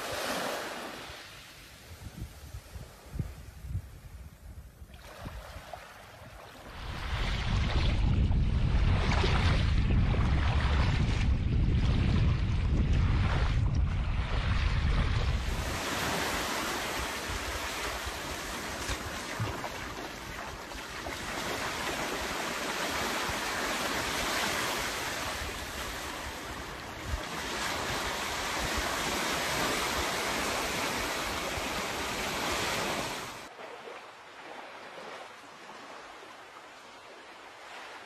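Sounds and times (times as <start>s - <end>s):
small waves washing up beach: 0.0s - 3.6s, 4.8s - 38.0s.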